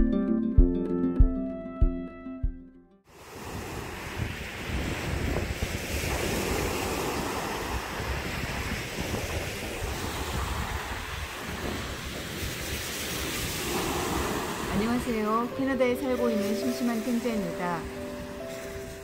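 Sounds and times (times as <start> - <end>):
waves washing onto pebble beach: 3.1 - 19.0
wind rumbling on microphone: 3.1 - 19.0.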